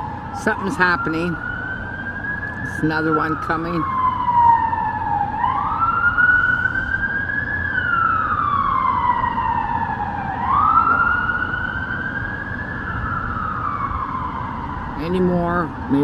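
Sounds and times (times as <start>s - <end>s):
emergency siren wailing: 0.0s - 16.0s
low hum of city traffic: 0.0s - 16.0s.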